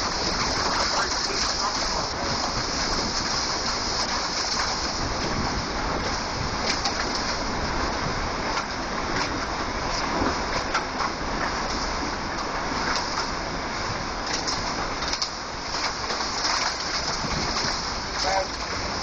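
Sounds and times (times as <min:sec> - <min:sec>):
strong storm wind rushing: 0:00.0 - 0:19.0.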